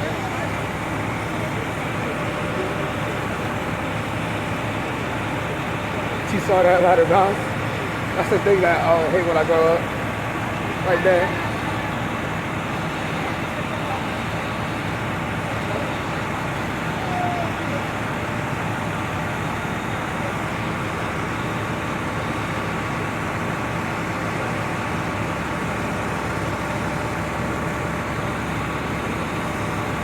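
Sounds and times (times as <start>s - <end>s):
fire engines droning: 0.0s - 30.0s.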